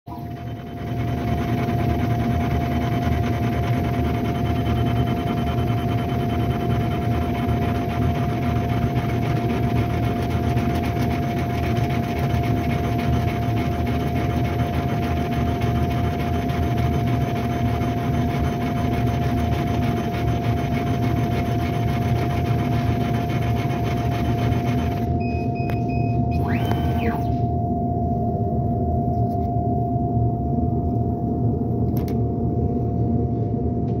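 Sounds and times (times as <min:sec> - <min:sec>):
fan and pump hum: 0:00.1 - 0:34.0
short machine whine: 0:00.1 - 0:34.0.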